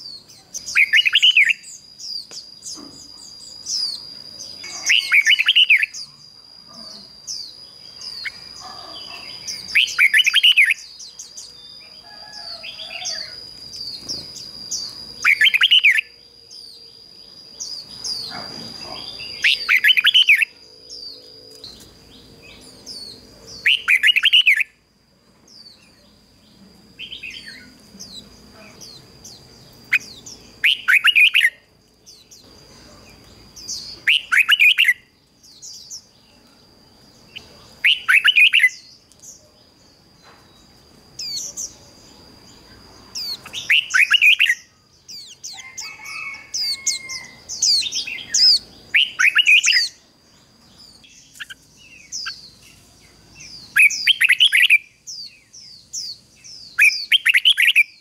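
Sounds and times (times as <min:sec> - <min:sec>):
bird singing warbled phrases: 0:00.0 - 0:24.8, 0:25.5 - 0:40.0, 0:41.2 - 0:58.0.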